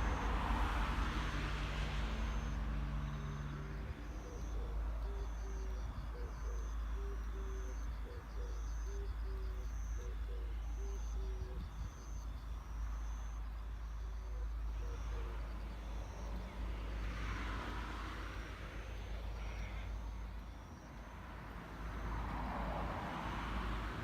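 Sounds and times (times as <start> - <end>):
road vehicle passing: 0.0 - 24.0.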